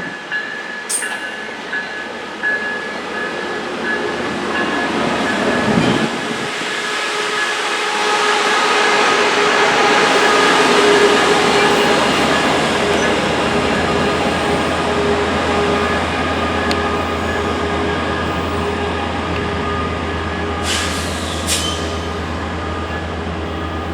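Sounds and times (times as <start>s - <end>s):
passenger train rumbling past: 0.0s - 23.9s.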